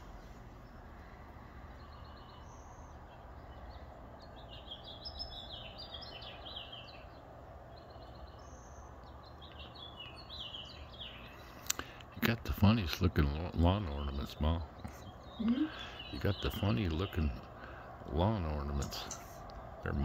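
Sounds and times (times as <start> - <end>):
low background noise: 0.0 - 20.0
small birds chirping: 0.0 - 20.0.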